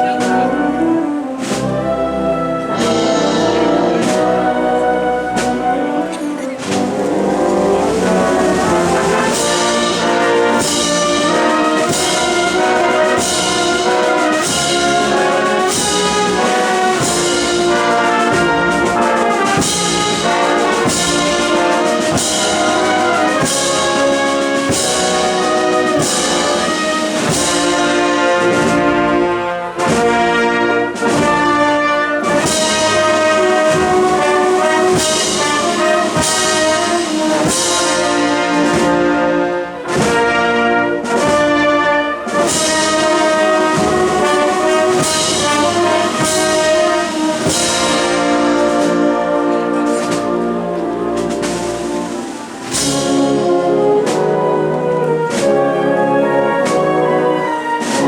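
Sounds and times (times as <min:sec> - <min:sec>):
wind band playing a march: 0:00.0 - 0:58.0.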